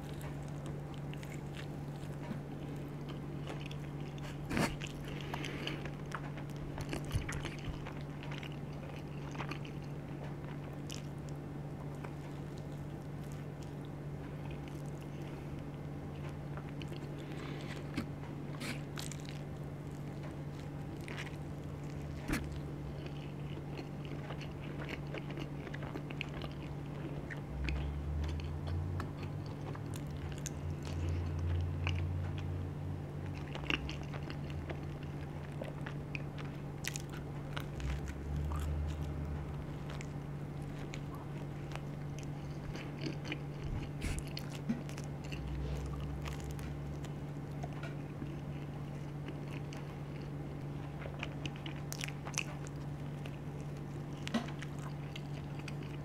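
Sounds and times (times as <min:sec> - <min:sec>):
crunchy chewing: 0:00.0 - 0:56.0
steady low hum: 0:00.0 - 0:56.0.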